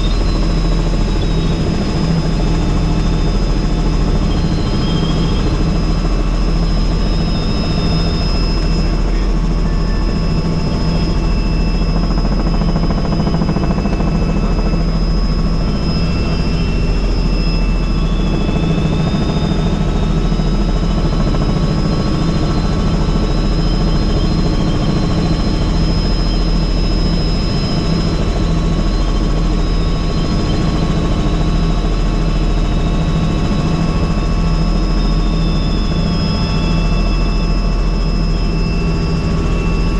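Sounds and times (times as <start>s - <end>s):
helicopter rotor drone: 0.0s - 39.9s
high-pitched whine: 0.0s - 39.9s.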